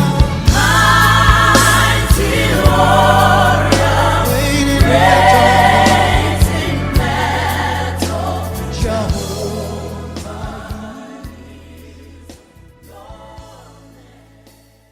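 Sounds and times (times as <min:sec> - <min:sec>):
bass: 0:00.0 - 0:14.9
gospel choir singing: 0:00.0 - 0:14.9.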